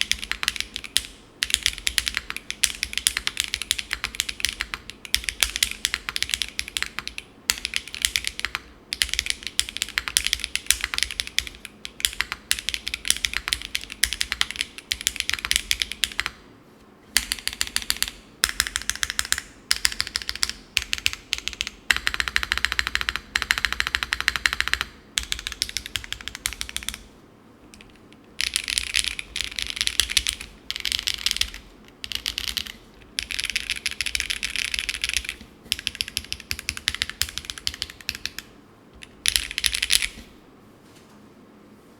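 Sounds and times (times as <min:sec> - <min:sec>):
mechanical keyboard typing: 0:00.0 - 0:16.4, 0:17.2 - 0:27.1, 0:27.8 - 0:40.2.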